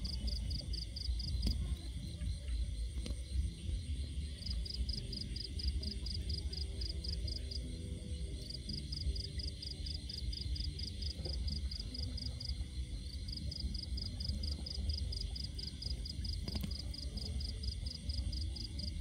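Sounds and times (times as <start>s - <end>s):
constant low rumble: 0.0s - 19.0s
cricket chirping: 0.0s - 19.0s.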